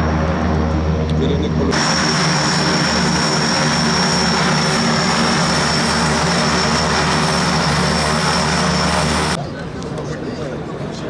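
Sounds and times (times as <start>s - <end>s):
propeller aircraft drone: 0.0s - 9.4s
turbine whine: 0.0s - 9.4s.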